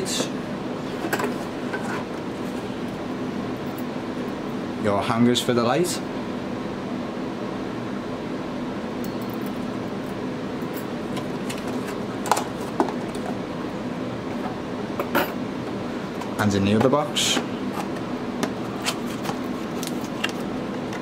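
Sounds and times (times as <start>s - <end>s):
background hum: 0.0s - 21.0s.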